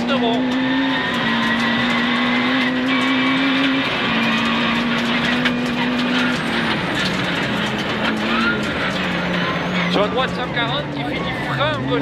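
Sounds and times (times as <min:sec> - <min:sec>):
rally car engine at high revs: 0:00.0 - 0:12.0
tyres on gravel: 0:00.0 - 0:12.0.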